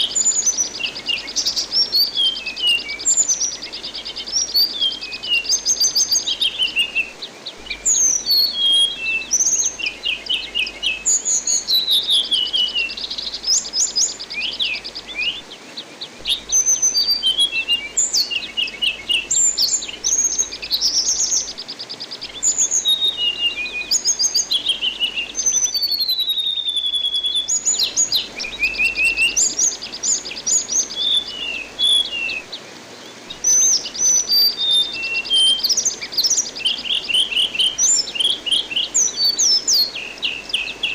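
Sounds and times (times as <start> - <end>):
thrush singing whistled trills: 0.0 - 15.5, 16.1 - 40.9
flowing water: 0.0 - 40.9.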